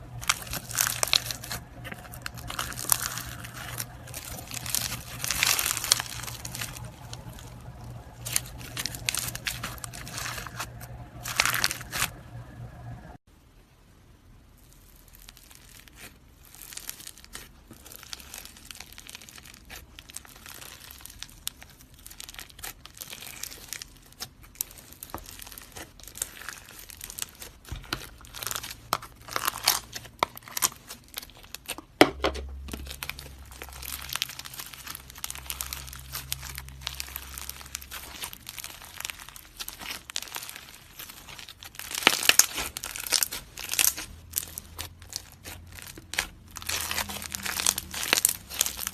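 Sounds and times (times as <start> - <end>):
slime crackling and popping: 0.0 - 13.2, 14.5 - 48.9.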